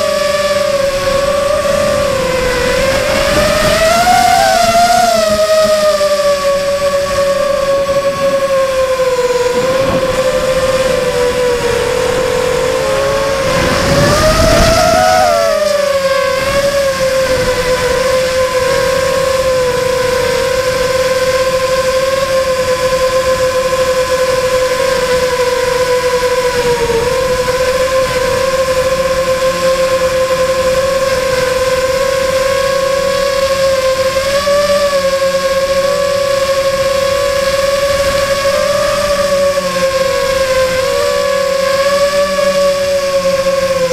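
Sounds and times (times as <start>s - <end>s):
electric motor and propeller whine: 0.0s - 43.9s
wind rushing on microphone: 0.0s - 43.9s.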